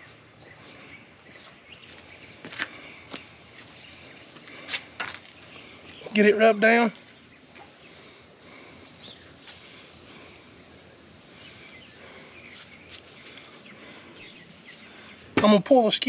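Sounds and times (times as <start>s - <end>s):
faint insect hiss: 0.0s - 16.0s.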